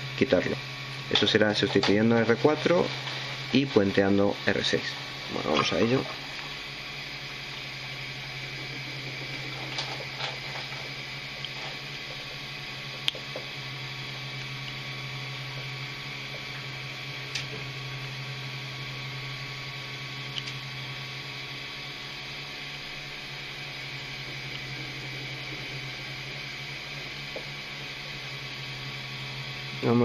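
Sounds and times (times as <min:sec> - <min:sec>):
soldering iron ticks: 0:00.0 - 0:29.9
low hum and hiss: 0:00.0 - 0:30.0.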